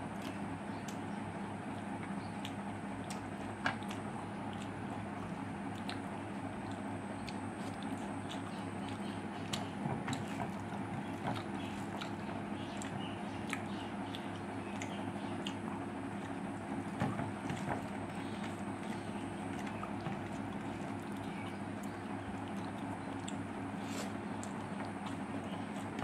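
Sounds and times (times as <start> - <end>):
steady low hum: 0.0 - 26.0
person chewing: 1.7 - 10.4, 11.4 - 16.4, 18.3 - 26.0.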